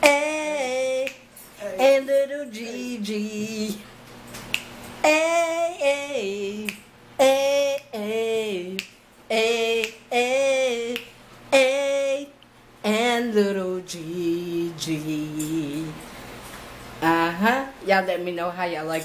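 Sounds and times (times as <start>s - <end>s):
woman singing unaccompanied: 0.0s - 4.0s, 5.0s - 16.1s, 17.0s - 19.0s.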